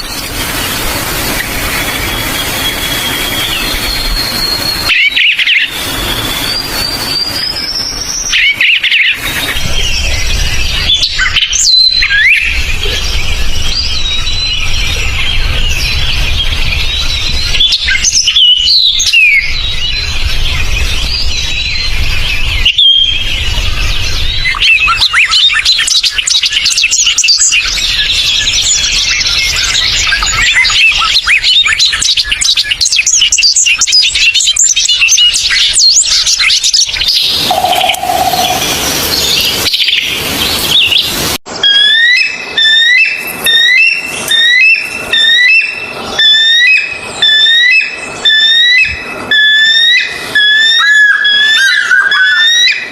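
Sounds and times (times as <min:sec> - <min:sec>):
songbirds chirping and singing: 0:00.0 - 0:52.9.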